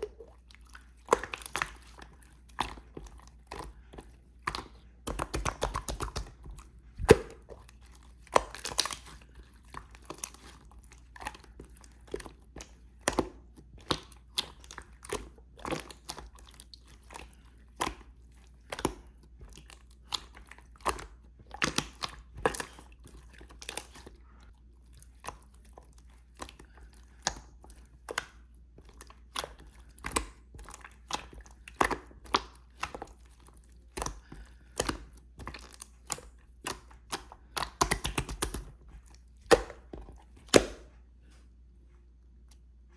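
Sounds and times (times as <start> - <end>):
slime squished by hand: 0.0 - 41.0.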